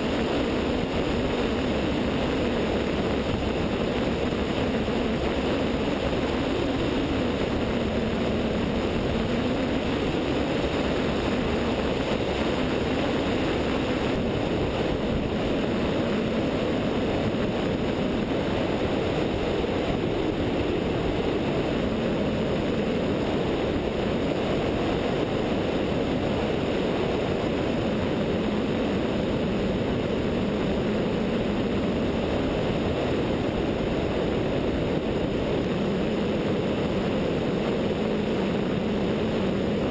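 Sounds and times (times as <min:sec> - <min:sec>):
airplane engine and propeller droning: 0:00.0 - 0:39.9
rushing airflow over microphone: 0:00.0 - 0:39.9.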